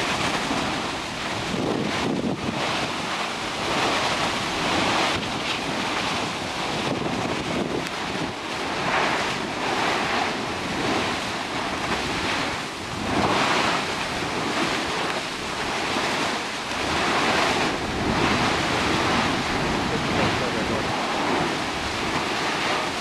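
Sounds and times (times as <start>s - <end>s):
lava churning and spattering: 0.0s - 23.0s.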